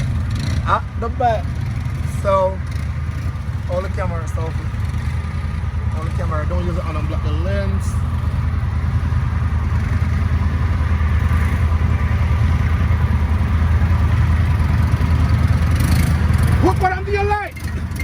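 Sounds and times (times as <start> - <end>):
atv engines rumbling: 0.0 - 18.0.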